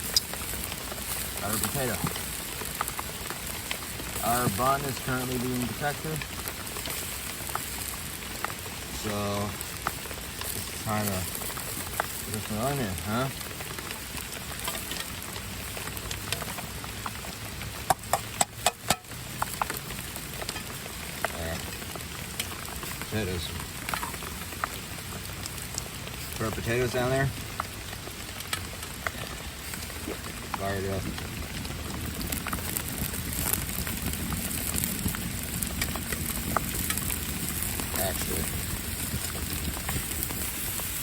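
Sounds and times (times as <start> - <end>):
grill fire crackling: 0.0 - 41.0
steady rain falling: 0.0 - 41.0.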